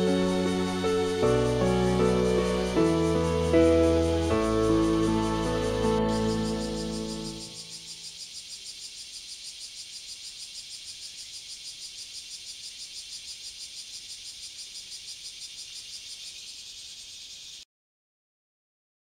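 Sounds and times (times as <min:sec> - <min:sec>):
insects trilling: 0:00.0 - 0:17.6.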